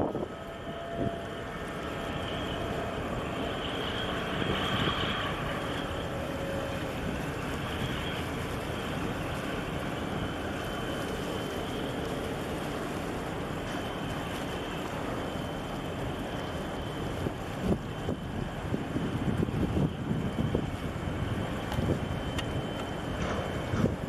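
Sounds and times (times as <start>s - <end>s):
faint high whine: 0.0s - 24.0s
steady mechanical drone: 0.0s - 24.0s.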